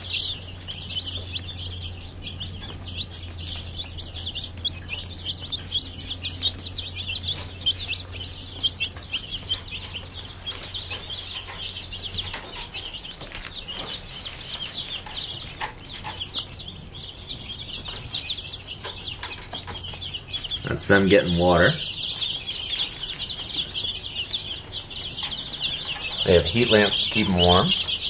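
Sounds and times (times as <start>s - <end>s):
chicks peeping: 0.0s - 28.0s
low steady hum: 0.0s - 28.0s.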